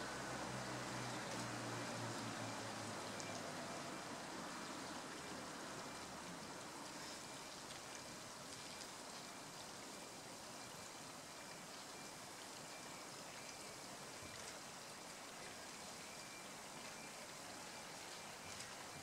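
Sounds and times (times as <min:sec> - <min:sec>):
flowing stream water: 0:00.0 - 0:19.0.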